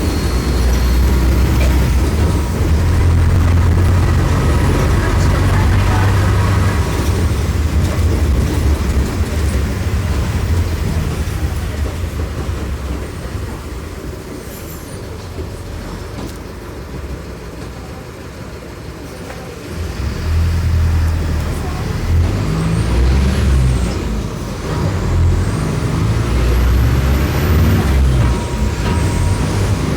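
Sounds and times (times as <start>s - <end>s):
bus diesel engine running: 0.0s - 29.9s.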